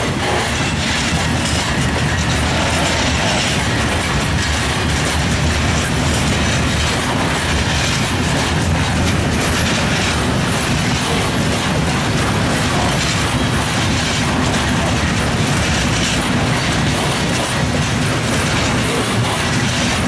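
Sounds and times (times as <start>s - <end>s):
diesel locomotive engine: 0.0s - 20.0s
wagon wheels clattering on rails: 0.0s - 20.0s.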